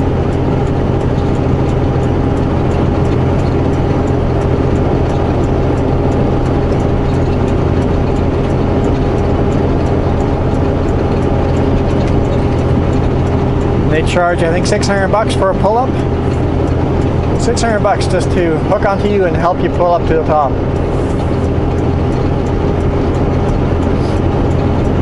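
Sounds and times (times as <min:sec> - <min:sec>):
diesel truck engine drone: 0:00.0 - 0:25.0
faint regular ticking: 0:00.0 - 0:25.0.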